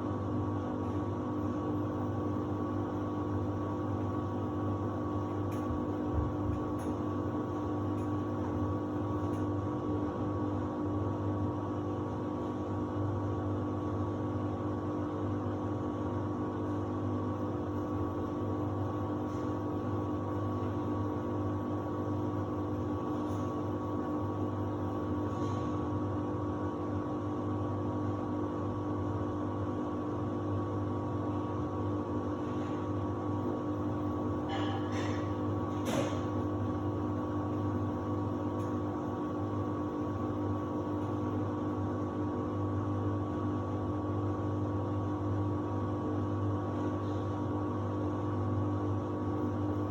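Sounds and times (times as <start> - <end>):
washing machine motor hum: 0.0 - 49.9.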